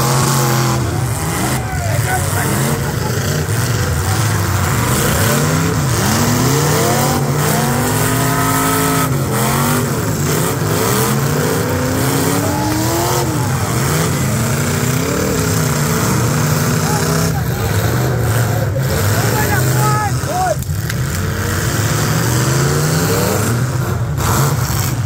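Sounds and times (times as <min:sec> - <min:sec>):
car engines revving hard: 0:00.0 - 0:25.0.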